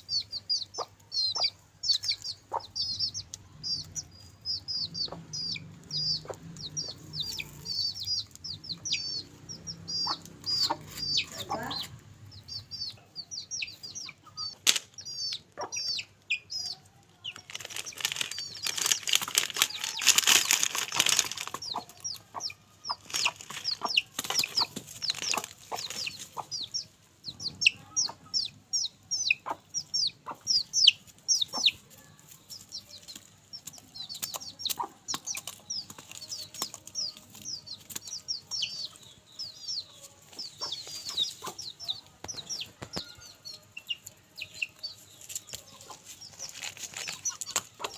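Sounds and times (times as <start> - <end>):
chicks cheeping: 0.0 - 47.9.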